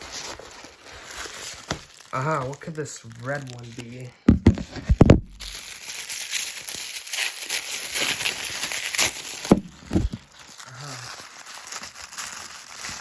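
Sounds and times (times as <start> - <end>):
wrapping paper crinkling: 0.0 - 13.0.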